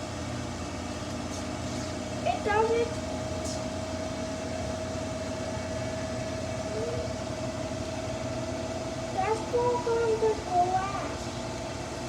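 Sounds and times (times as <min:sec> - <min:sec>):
washing machine spinning: 0:02.0 - 0:12.0.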